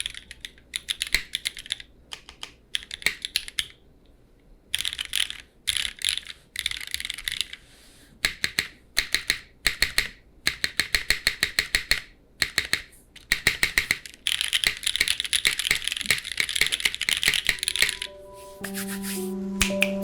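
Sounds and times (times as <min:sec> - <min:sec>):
typing on mechanical keyboard: 0:00.0 - 0:03.8, 0:04.8 - 0:07.6, 0:08.2 - 0:18.2.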